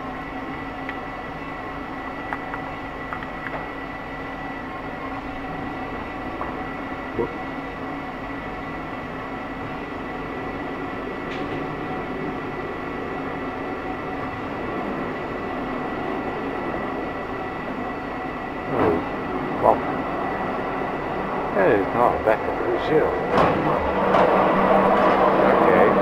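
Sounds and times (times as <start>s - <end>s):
target carrier mechanical hum: 0.0s - 26.0s.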